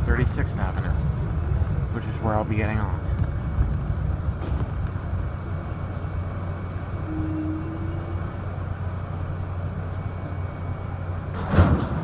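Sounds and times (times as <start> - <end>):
faint whine: 0.0 - 11.6
subway train rumbling: 0.0 - 12.0.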